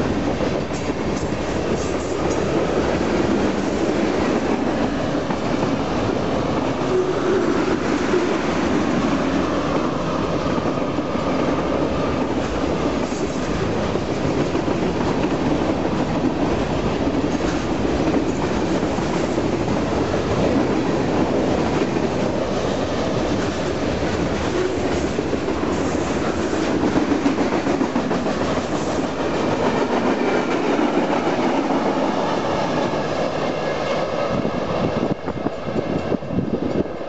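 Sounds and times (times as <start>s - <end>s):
steel wheels rumbling on rail: 0.0s - 37.0s.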